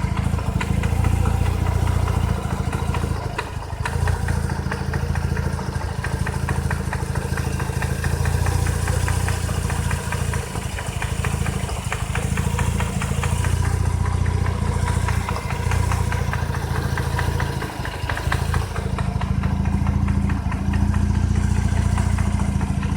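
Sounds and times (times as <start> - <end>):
fast even engine ticking: 0.0 - 22.9
rotary engine running: 0.0 - 22.9.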